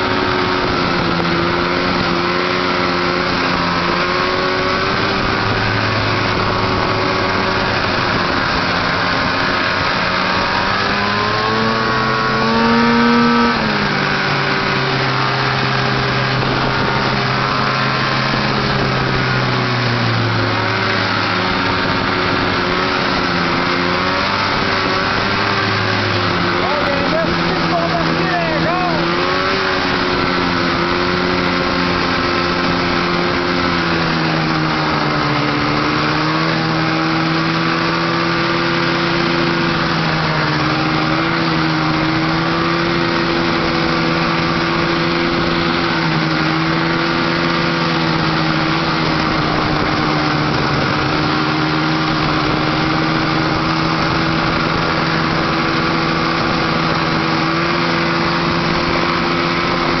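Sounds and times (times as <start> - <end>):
snowmobile engine running: 0.0 - 60.0.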